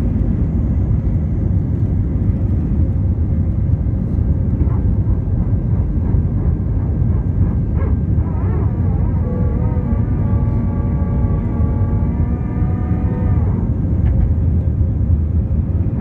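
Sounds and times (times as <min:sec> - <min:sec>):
jet engines and airflow rumbling: 0:00.0 - 0:16.0.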